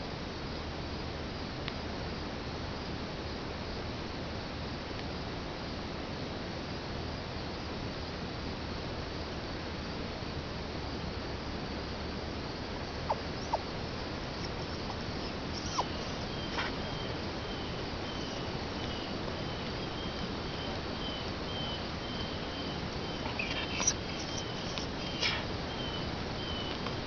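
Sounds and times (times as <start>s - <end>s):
insects chirping: 0.0s - 27.0s
steady hiss: 0.0s - 27.0s.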